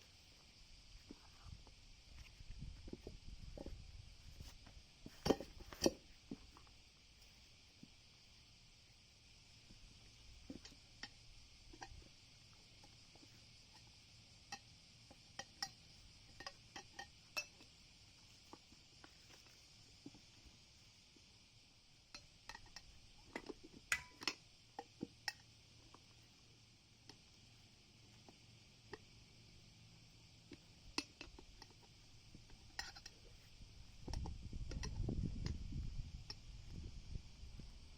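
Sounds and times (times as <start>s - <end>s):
steady hiss: 0.0s - 37.9s.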